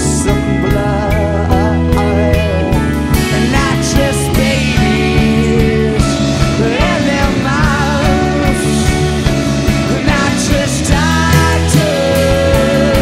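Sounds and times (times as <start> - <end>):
bass guitar: 0.0 - 13.0
electric guitars: 0.0 - 13.0
keyboard: 0.0 - 13.0.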